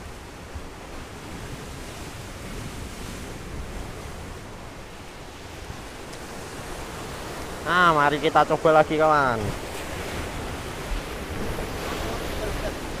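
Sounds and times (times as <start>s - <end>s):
surf washing on shore: 0.0s - 13.0s.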